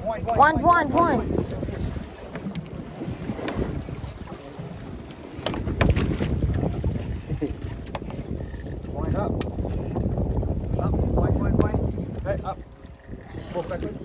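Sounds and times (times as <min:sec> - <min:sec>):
water sloshing against boat: 0:00.0 - 0:14.0
wind buffeting microphone: 0:00.0 - 0:14.0.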